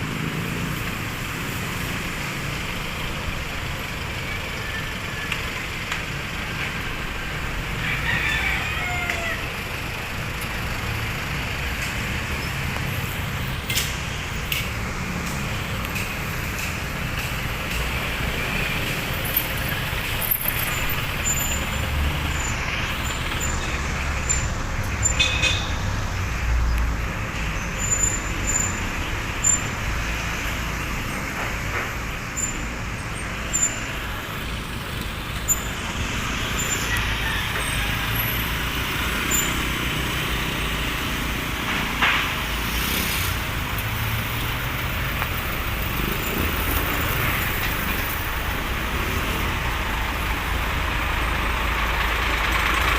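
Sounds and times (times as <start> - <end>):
passing cars and trucks: 0.0 - 52.9.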